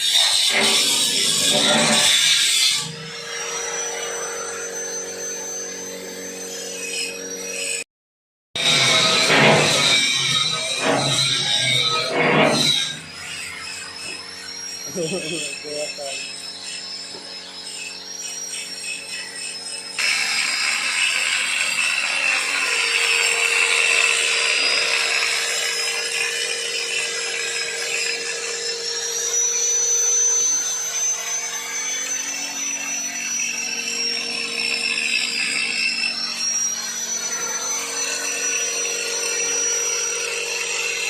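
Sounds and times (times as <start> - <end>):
machine motor hum and whine: 0.0 - 7.8, 8.6 - 41.0.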